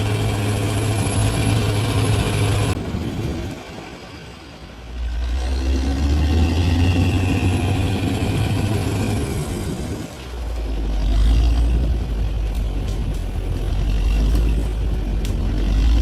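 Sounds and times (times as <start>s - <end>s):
bulldozer diesel engine: 0.0s - 16.0s.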